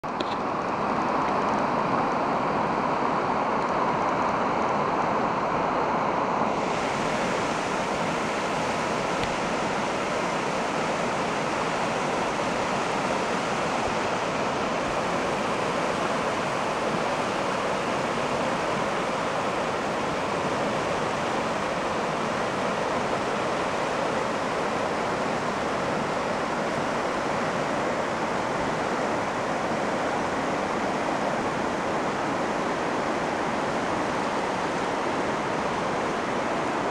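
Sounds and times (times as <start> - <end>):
river water rushing over rocks: 0.0 - 36.9.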